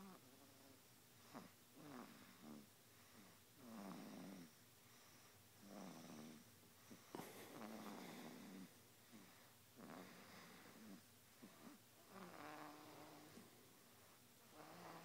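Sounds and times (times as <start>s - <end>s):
baby snoring: 0.0s - 4.5s, 5.6s - 6.4s, 7.1s - 13.5s, 14.5s - 15.0s.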